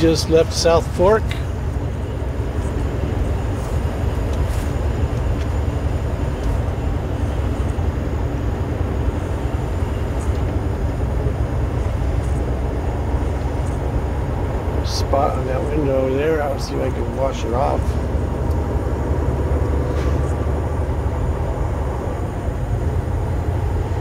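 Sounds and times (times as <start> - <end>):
road noise: 0.0 - 24.0
truck engine drone: 0.0 - 24.0.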